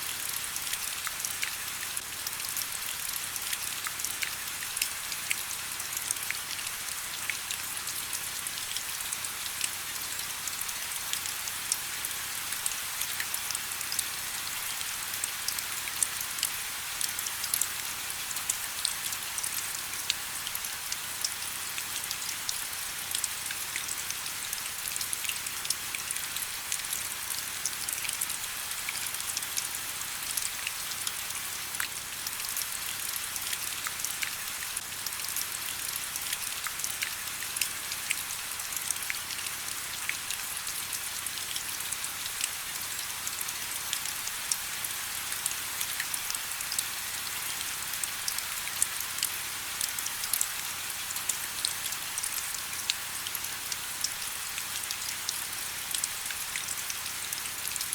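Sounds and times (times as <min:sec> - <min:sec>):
raindrops ticking on a surface: 0:00.1 - 0:57.9.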